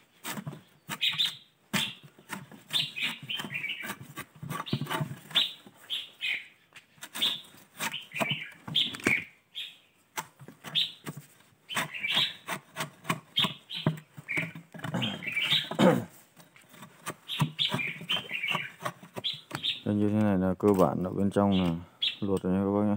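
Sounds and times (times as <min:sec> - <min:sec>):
chisel knocking and scraping wood: 0:00.0 - 0:06.0, 0:06.7 - 0:09.3, 0:10.1 - 0:21.8
birds chirping: 0:00.0 - 0:22.9.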